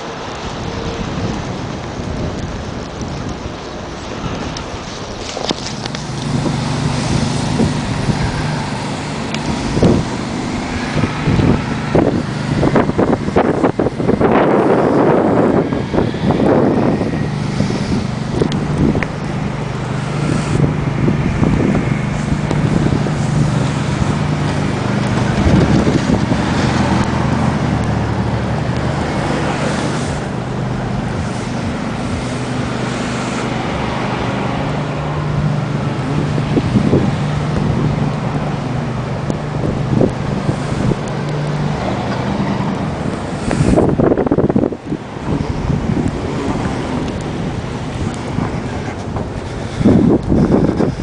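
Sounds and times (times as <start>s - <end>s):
vehicle engine running: 0.0s - 51.0s
wind noise on microphone: 0.0s - 51.0s.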